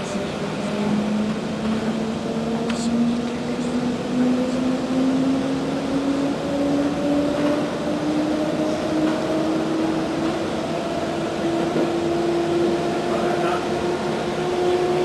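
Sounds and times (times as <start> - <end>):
train rolling rumble: 0.0 - 15.0.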